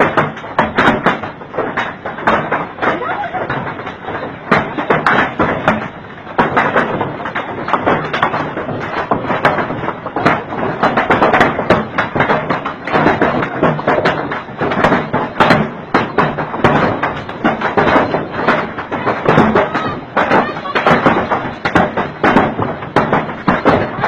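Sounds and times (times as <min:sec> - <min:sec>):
heavy rain pelting down: 0:00.0 - 0:24.0.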